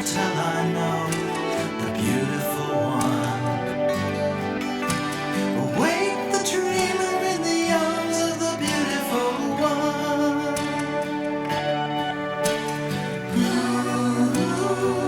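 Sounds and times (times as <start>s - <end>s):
slow plucked guitar music: 0.0s - 15.0s.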